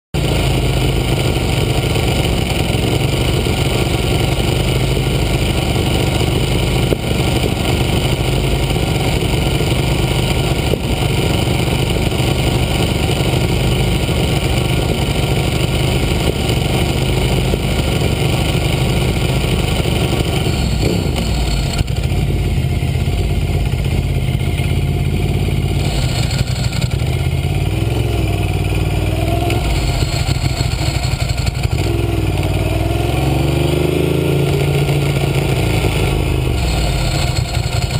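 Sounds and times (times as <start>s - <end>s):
motorcycle engine idling: 0.2s - 37.9s.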